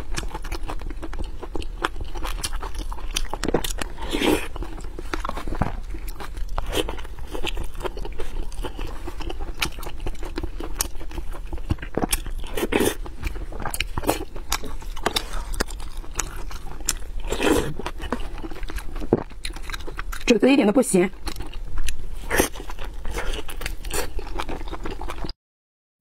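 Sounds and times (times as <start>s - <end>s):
person chewing food: 0.0s - 20.3s, 21.2s - 25.3s.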